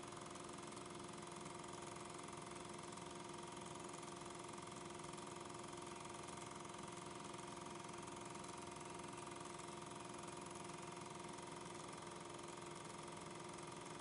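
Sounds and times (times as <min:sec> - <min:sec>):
machine hum with fast flutter: 0:00.0 - 0:14.0.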